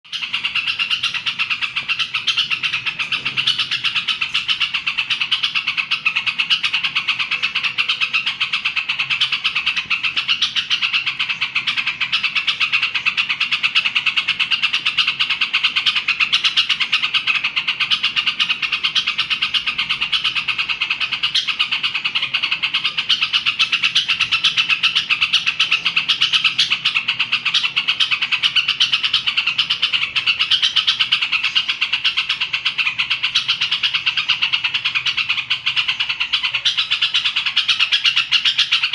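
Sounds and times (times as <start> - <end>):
bird singing chattering song: 0.0 - 38.9.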